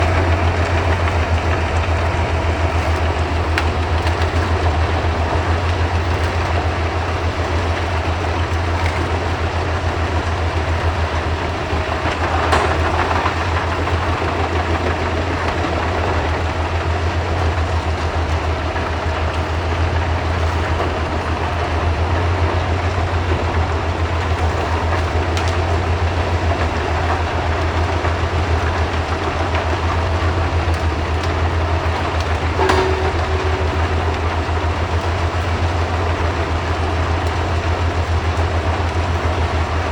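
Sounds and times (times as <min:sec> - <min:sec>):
wood chipper engine drone: 0:00.0 - 0:39.9.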